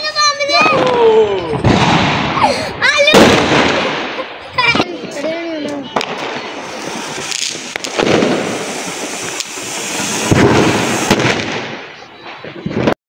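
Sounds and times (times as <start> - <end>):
sharp firework cracks: 0.1 - 13.0
firework fountain hissing: 1.7 - 12.5.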